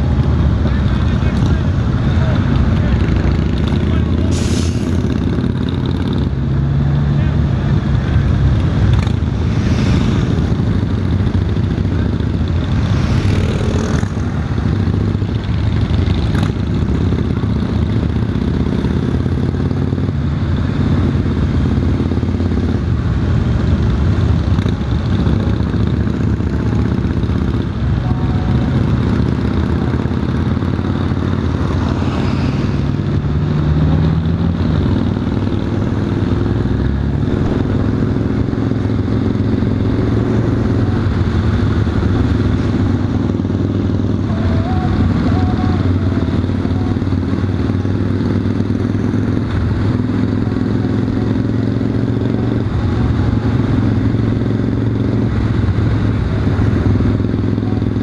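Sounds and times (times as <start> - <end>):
motorcycle engine cruising: 0.0 - 58.0
road noise: 0.0 - 58.0.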